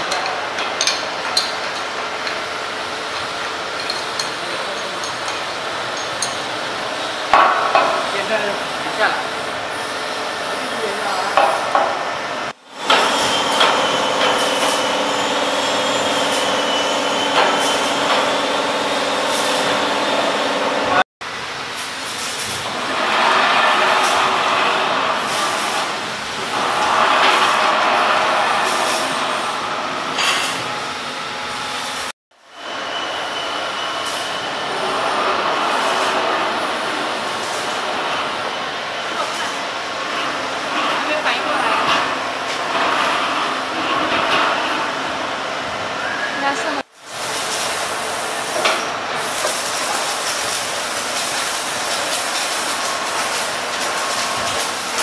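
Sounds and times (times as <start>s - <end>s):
mechanical workshop noise: 0.0s - 55.0s.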